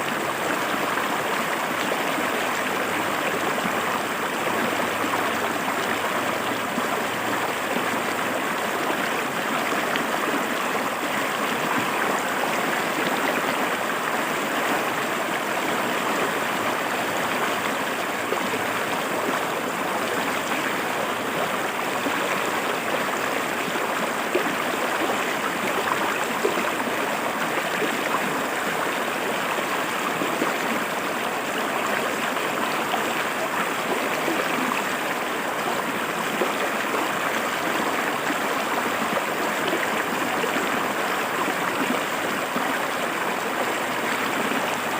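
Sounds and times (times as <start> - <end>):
river water over rocks: 0.0 - 44.9.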